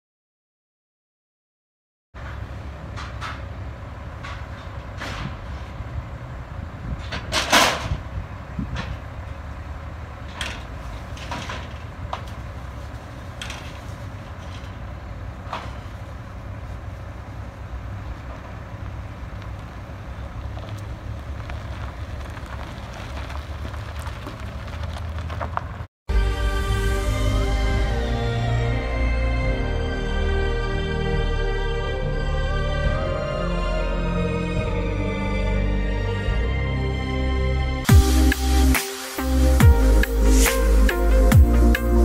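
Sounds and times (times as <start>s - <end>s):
low engine rumble: 2.2s - 42.0s.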